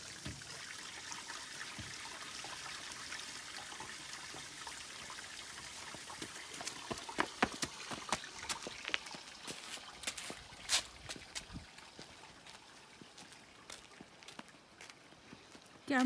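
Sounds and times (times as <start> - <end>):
water draining through hose: 0.0 - 13.0.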